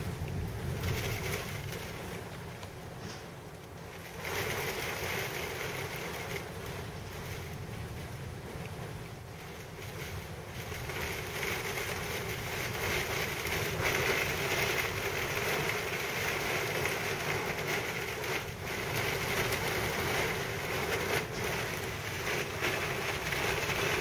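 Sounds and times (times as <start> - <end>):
strong wind blowing: 0.0 - 24.0.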